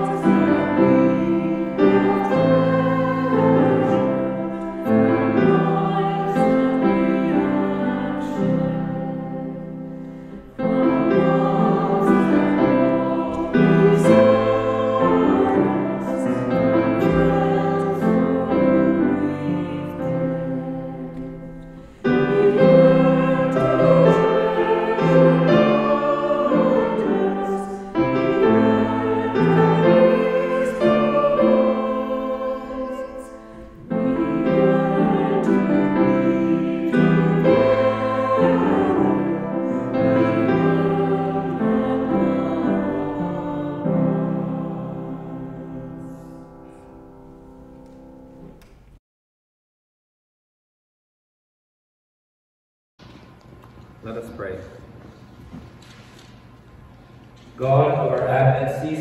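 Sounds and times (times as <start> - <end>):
voices singing a hymn: 0.0 - 48.6
piano accompaniment: 0.0 - 49.0.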